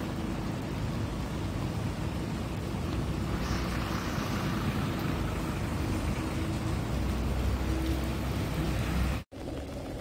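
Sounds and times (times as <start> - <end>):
flooding river rushing: 0.0 - 10.0.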